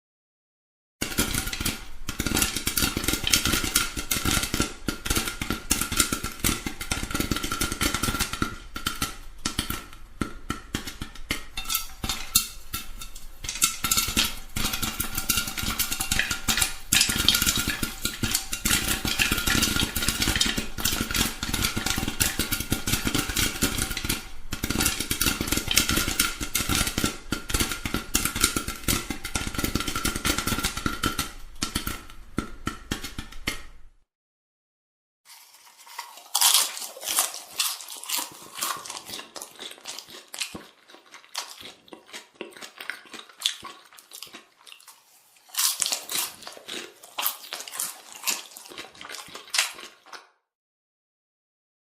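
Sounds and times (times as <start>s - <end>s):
popcorn popping: 1.0s - 34.0s, 35.3s - 44.6s, 45.5s - 50.1s.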